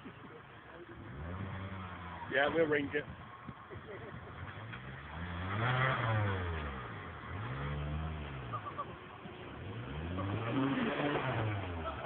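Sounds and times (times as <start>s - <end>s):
off-road vehicle engine revving: 0.3s - 12.0s.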